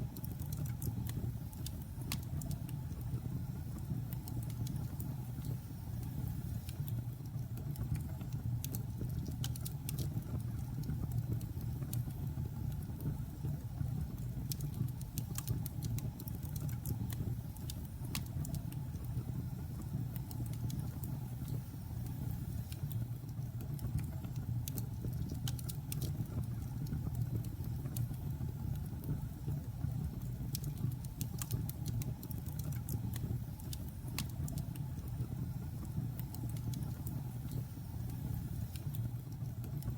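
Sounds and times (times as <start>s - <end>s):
crackles and pops of burning logs: 0.0s - 39.9s
fire rumbling in fireplace: 0.0s - 39.9s.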